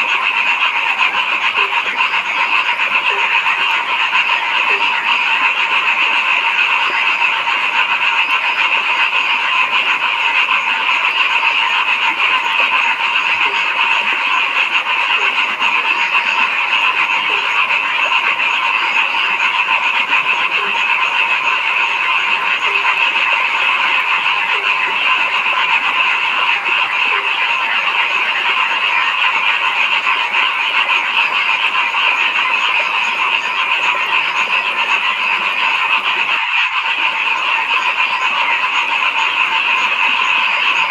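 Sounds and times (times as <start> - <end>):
frogs churring in chorus: 0.0 - 40.9
low frog croaks: 0.0 - 40.9.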